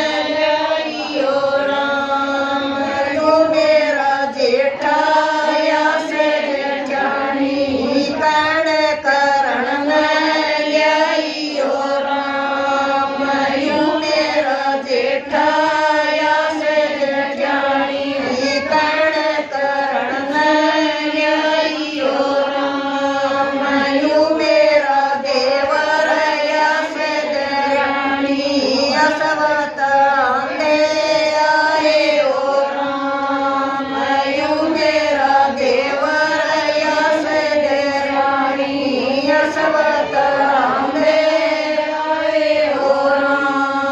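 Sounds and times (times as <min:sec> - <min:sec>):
women singing devotional song: 0:00.0 - 0:43.9.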